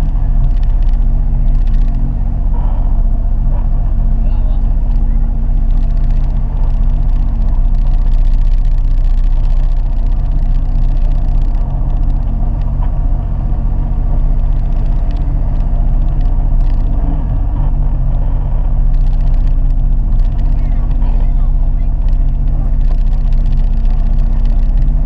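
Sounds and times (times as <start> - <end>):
water noise: 0.0 - 25.0
watercraft engine humming: 0.0 - 25.0.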